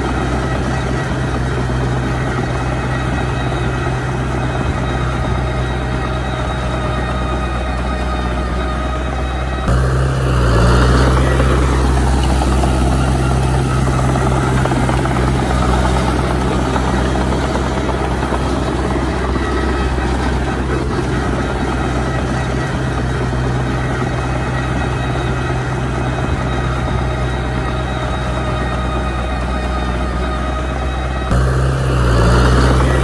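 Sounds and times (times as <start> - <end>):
loud machine humming: 0.0 - 33.0.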